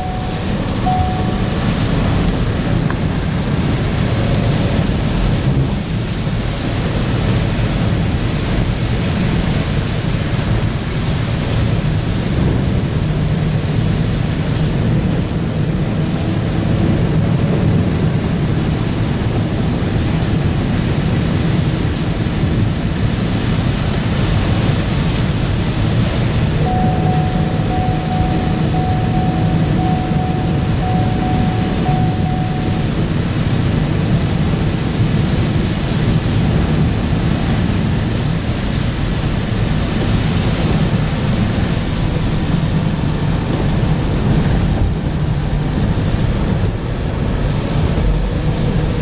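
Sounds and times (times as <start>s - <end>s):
rain on a car: 0.0s - 49.0s
road rumble: 0.0s - 49.0s.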